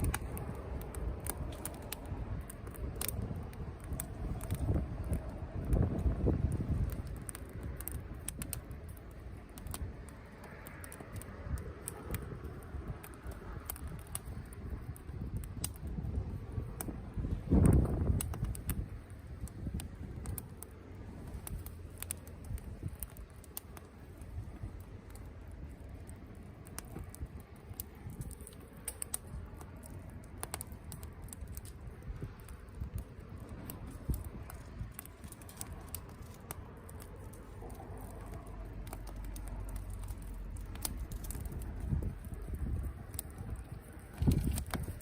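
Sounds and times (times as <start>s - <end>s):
wood campfire crackling: 0.0s - 45.0s.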